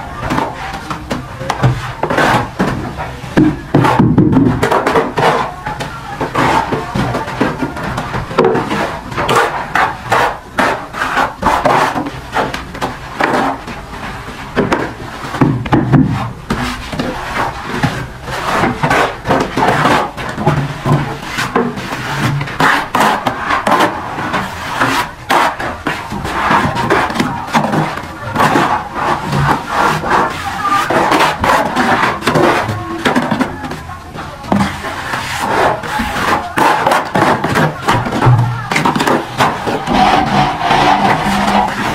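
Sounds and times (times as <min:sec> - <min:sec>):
trowel scraping mortar: 0:00.2 - 0:33.8, 0:34.4 - 0:41.9.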